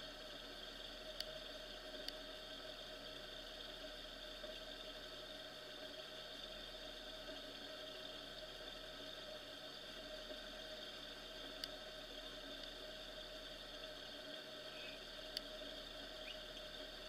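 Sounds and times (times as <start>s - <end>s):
faint engine hum: 0.0s - 17.0s.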